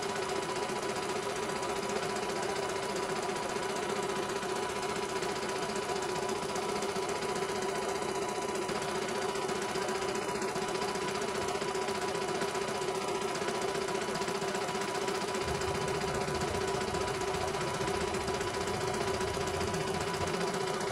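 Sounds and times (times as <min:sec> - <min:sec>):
embroidery machine stitching: 0:00.0 - 0:20.9.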